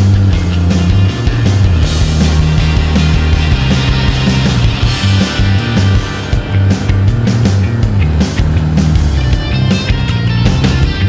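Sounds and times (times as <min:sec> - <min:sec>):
bass line: 0:00.0 - 0:11.0
drum hits: 0:00.1 - 0:11.0.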